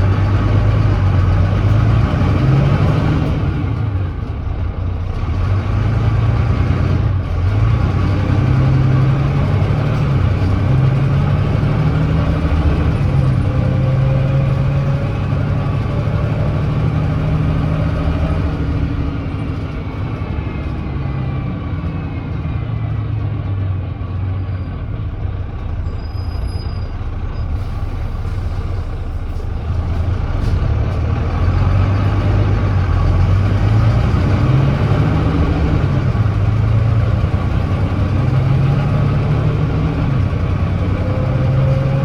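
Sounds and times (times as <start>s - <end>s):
bus diesel engine climbing hill: 0.0s - 42.0s.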